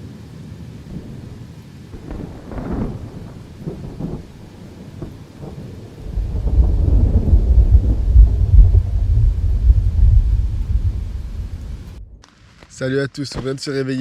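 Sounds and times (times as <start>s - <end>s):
steady rain: 0.0s - 13.0s
thunder rumbling: 0.8s - 12.2s.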